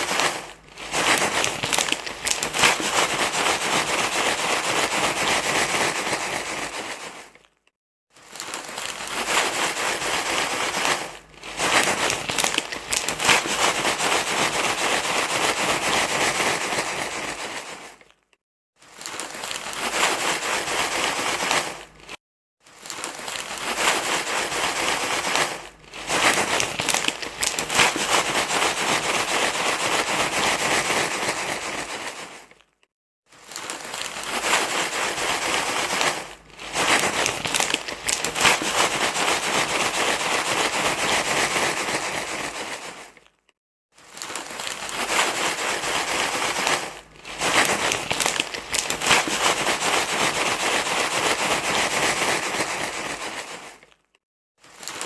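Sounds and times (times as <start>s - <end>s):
crinkling rustling noise: 0.0s - 55.0s.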